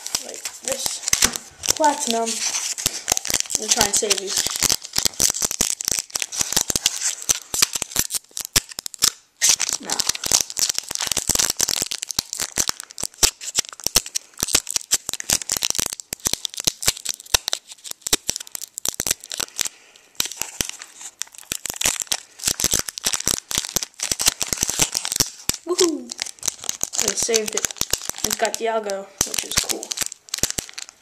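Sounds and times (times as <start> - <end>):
foil wrapper crinkling open: 0.0 - 31.0.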